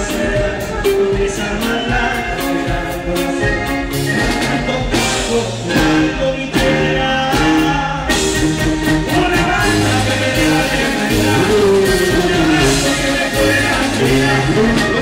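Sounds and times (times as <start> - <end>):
drum kit: 0.0 - 15.0
guitars: 0.0 - 15.0
tuba bass line: 0.0 - 15.0.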